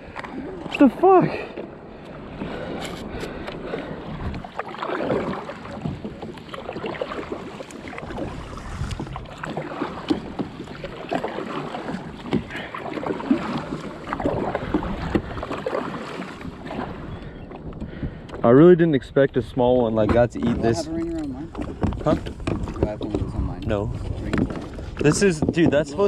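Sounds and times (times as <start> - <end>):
water lapping against kayak hull: 0.0 - 26.0.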